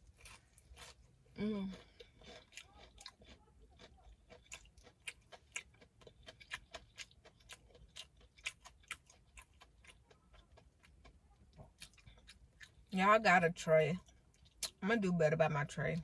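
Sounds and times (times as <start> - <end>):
crunchy chewing: 0.0 - 12.9.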